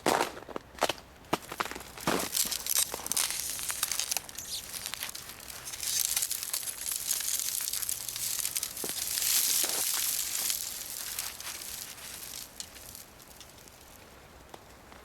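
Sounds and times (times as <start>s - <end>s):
ice crunching and crackling: 0.0s - 15.0s.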